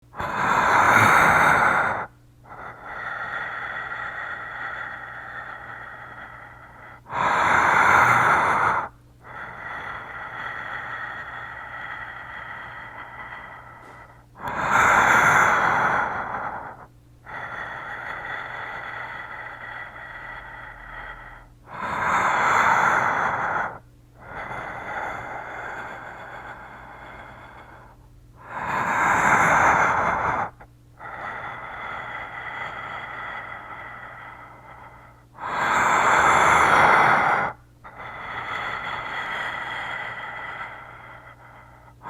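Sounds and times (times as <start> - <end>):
person imitating respirator breathing: 0.0 - 42.0.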